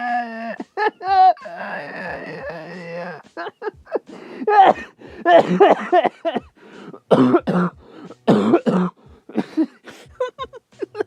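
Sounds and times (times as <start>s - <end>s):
person coughing and hacking: 0.0s - 11.0s.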